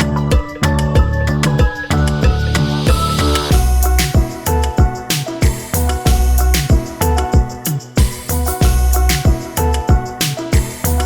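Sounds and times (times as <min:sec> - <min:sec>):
music with beat and bass: 0:00.0 - 0:11.0.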